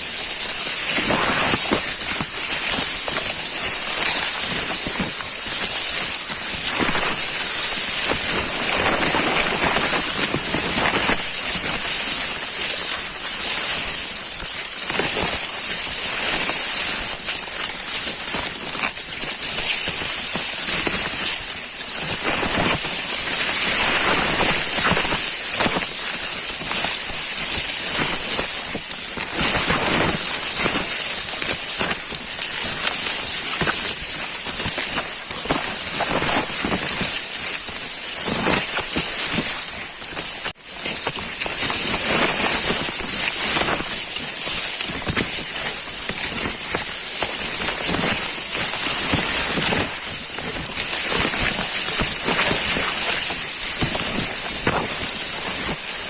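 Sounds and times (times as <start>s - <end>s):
spray spattering on leaves: 0.0s - 56.0s
sprayer hiss: 0.0s - 56.0s.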